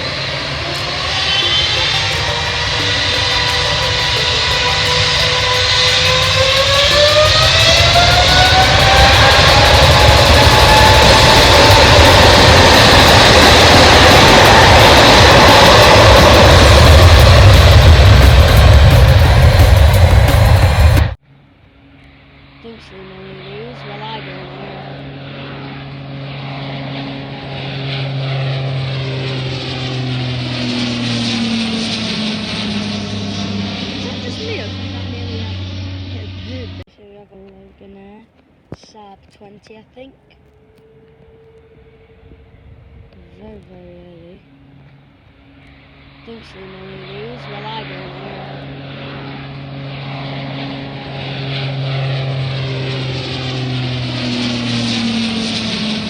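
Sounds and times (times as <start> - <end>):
propeller airliner drone: 0.0 - 56.0.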